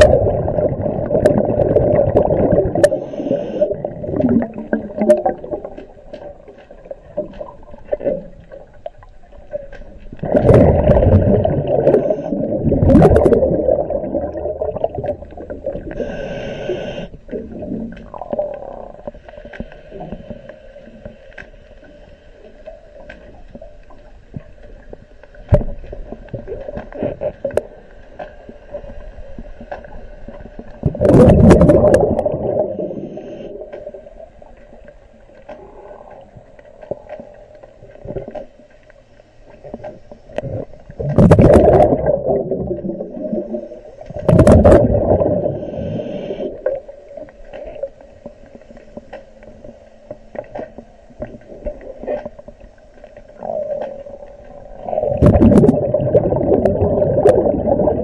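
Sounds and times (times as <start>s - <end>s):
low underwater hum: 0.0s - 58.0s.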